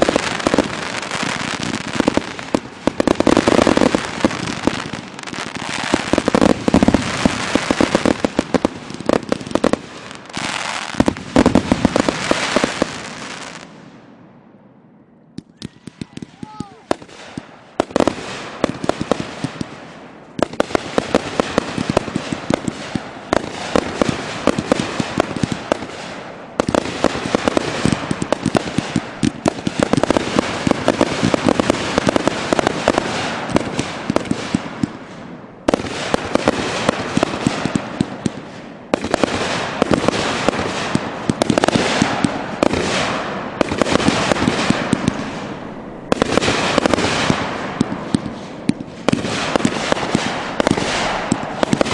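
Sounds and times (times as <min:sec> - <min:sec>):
fireworks crackling bursts: 0:00.0 - 0:14.1, 0:15.4 - 0:51.9.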